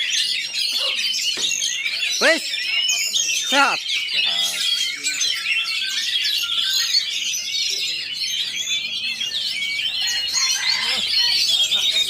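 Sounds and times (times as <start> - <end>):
chorus of songbirds: 0.0 - 12.0.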